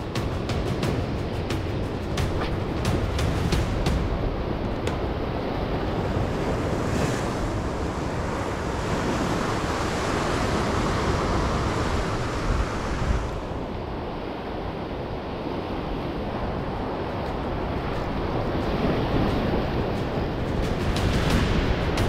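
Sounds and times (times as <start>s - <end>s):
ocean surf washing ashore: 0.0s - 22.0s
wind buffeting microphone: 0.0s - 22.0s.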